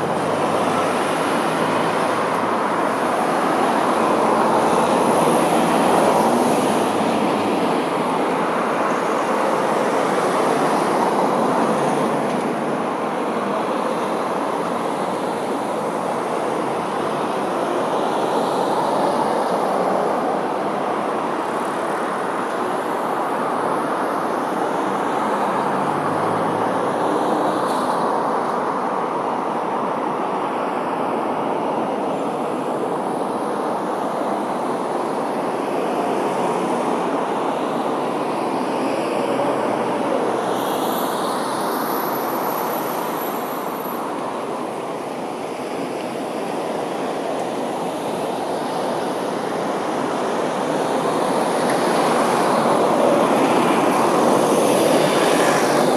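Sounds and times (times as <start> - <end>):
vehicles moving along road: 0.0 - 55.9.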